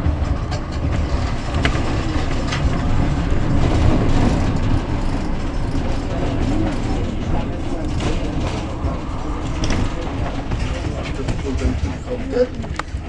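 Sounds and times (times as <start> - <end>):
passing tram: 0.0 - 13.0
rail clicks: 0.0 - 13.0
tram wheels rumbling: 0.0 - 13.0.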